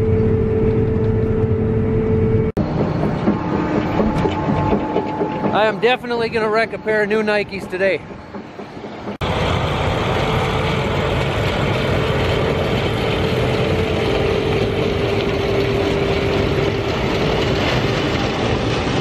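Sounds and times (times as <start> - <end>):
steady tone: 0.0 - 18.5
harvester machine rumble: 0.0 - 19.0.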